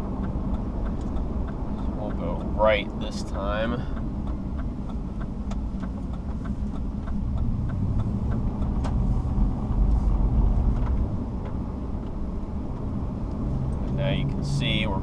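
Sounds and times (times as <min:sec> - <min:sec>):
car engine and tyres rumbling: 0:00.0 - 0:15.0
faint light ticks: 0:00.2 - 0:14.9.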